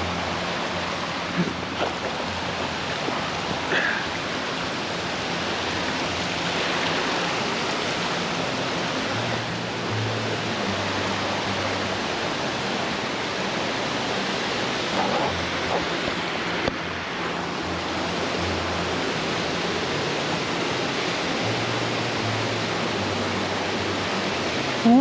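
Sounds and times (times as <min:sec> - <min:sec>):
stream water rushing through rapids: 0:00.0 - 0:25.0.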